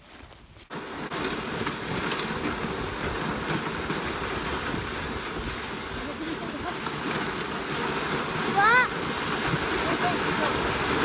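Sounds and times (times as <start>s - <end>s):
sledge scraping over snow: 0.0s - 11.0s.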